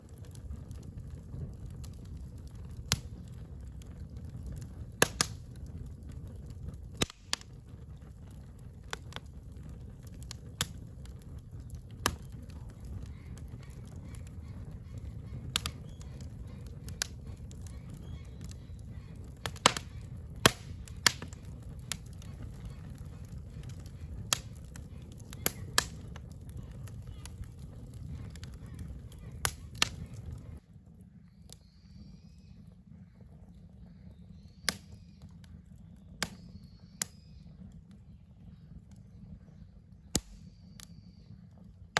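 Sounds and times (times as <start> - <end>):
fire pops: 0.0 - 30.6, 34.3 - 38.2, 38.8 - 41.9
campfire crackling: 0.0 - 41.9
low steady rumble: 0.0 - 41.9.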